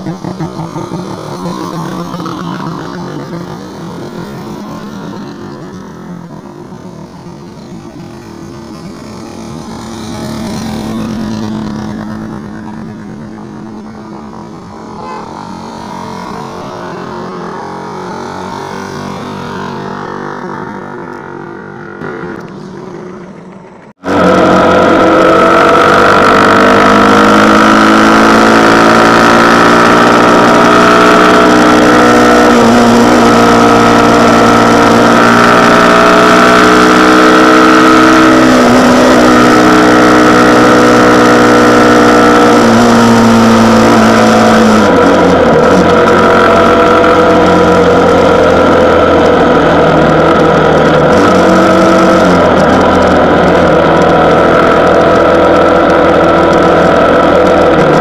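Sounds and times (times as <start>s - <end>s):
motorcycle engine running: 0.0s - 5.1s, 6.0s - 58.0s.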